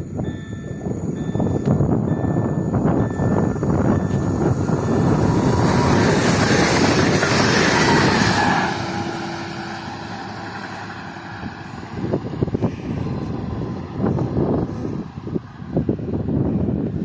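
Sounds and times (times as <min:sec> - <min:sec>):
train wheels rumbling on rails: 0:00.0 - 0:17.0
high whining tones: 0:00.1 - 0:16.2.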